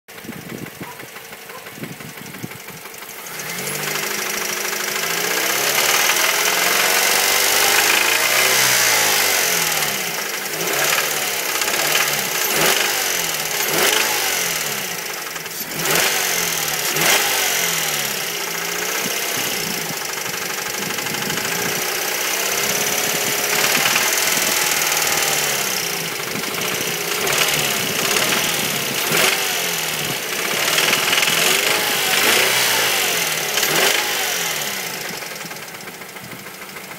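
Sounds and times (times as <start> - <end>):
light engine ticking: 0.1 - 36.9
car engine revving: 0.3 - 36.9.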